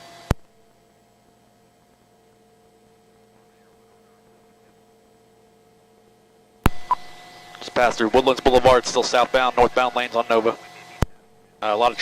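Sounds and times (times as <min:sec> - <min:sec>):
electrical hum with thin tones: 0:00.1 - 0:12.0.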